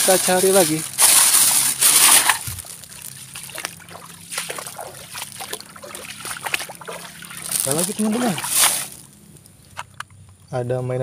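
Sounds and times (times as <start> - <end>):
plastic bag rustling: 0.0 - 9.5
splashes of wading: 0.0 - 9.6
stream water trickling: 0.0 - 9.7.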